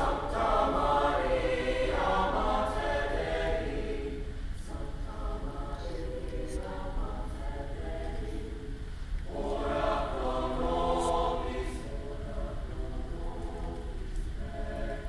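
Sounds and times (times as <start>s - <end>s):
mixed choir singing chords: 0.0s - 15.0s.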